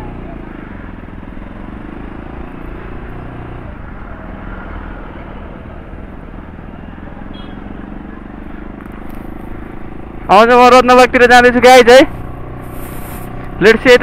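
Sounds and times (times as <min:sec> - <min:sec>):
motorcycles and cars passing: 0:00.0 - 0:14.0.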